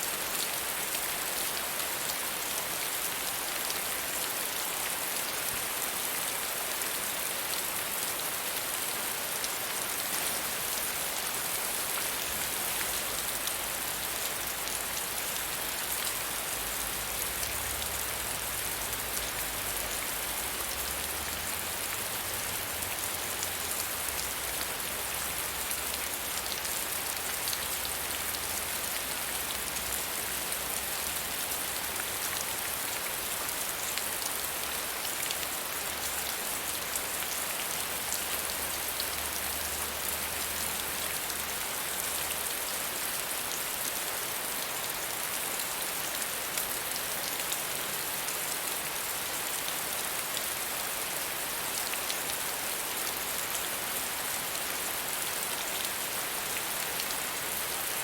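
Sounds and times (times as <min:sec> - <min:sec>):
soft rain pattering: 0:00.0 - 0:58.0.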